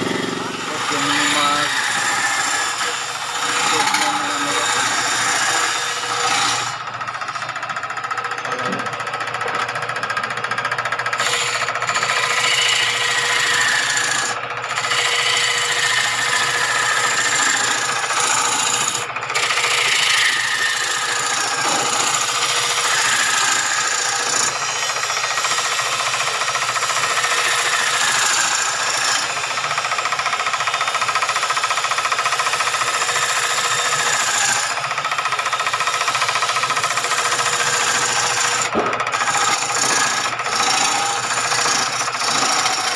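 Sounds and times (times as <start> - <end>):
lathe motor hum: 0.0 - 42.9
tool cutting spinning wood: 0.0 - 42.9.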